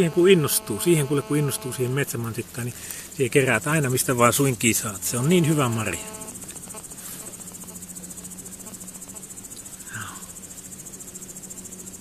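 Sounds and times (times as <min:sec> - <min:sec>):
grasshoppers stridulating: 0:00.0 - 0:12.0.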